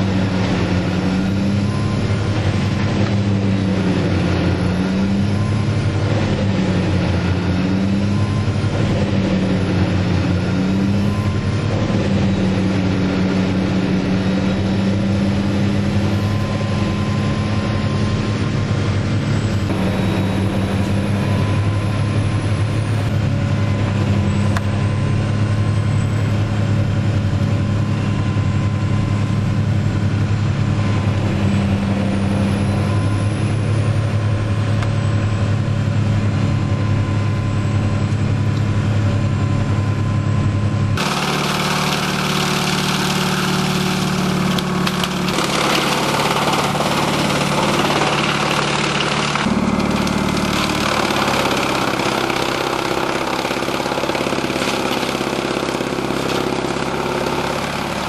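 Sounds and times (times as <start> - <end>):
tractor engine: 0.0 - 58.0
wood chipper running: 0.0 - 58.0.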